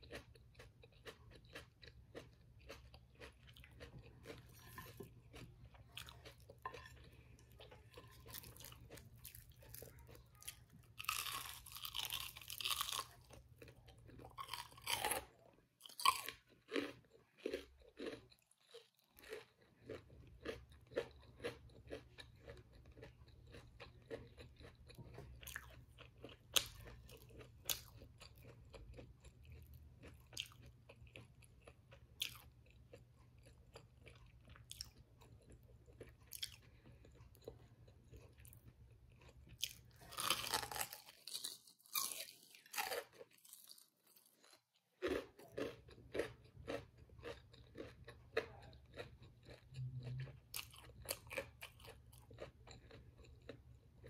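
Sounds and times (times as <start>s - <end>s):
crunchy chewing of fried food: 0.0s - 54.0s.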